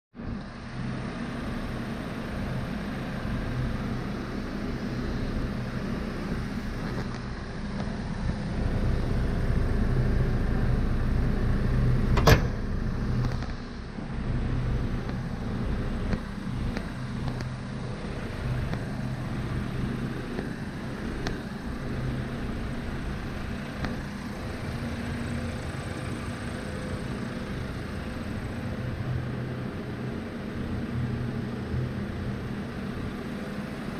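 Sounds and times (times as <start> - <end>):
diesel engine idling: 0.3 - 33.9.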